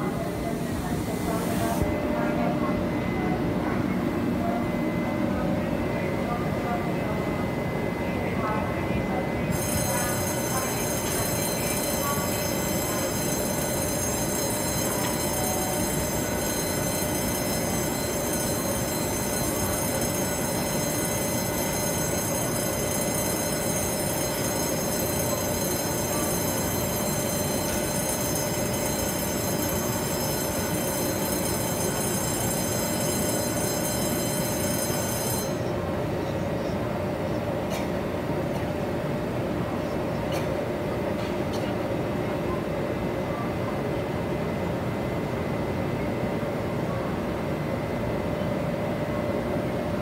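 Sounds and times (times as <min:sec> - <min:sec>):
locomotive equipment humming: 0:00.0 - 0:40.4.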